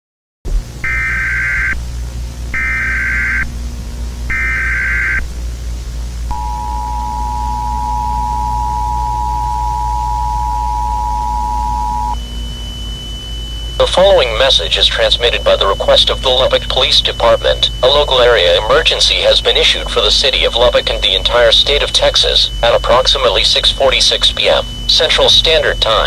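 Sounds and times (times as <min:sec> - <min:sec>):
steady low hum: 0:00.5 - 0:26.0
digital data noise bursts: 0:00.6 - 0:26.0
two-tone attention signal: 0:00.8 - 0:01.8, 0:04.3 - 0:05.2, 0:06.3 - 0:26.0
higher steady tone: 0:00.8 - 0:26.0.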